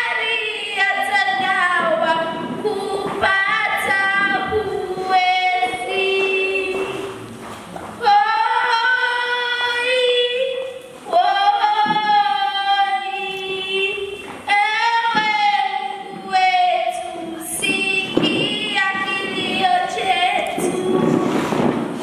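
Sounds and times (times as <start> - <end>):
girl singing into a microphone: 0.0 - 7.2, 7.9 - 22.0.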